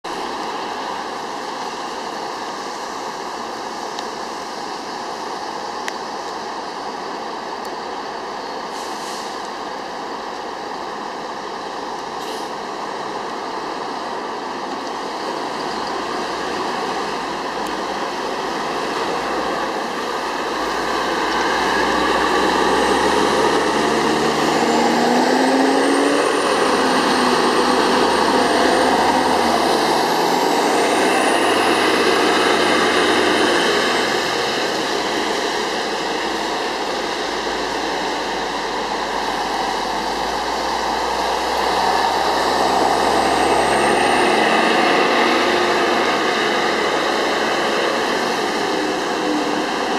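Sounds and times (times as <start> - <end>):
diesel bus engine rumble: 0.1 - 49.9
tyres hissing on wet road: 0.1 - 49.9.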